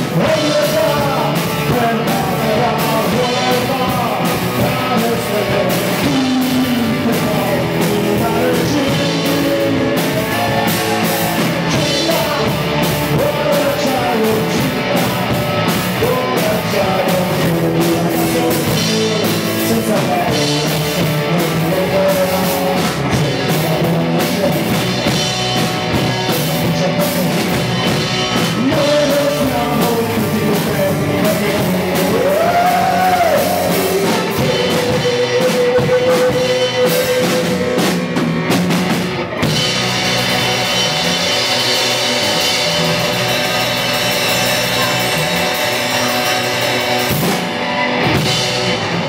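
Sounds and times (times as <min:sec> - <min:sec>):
man singing: 0:00.0 - 0:47.3
distorted electric guitars: 0:00.0 - 0:49.0
drum kit: 0:00.0 - 0:49.0
electric bass: 0:00.0 - 0:49.0.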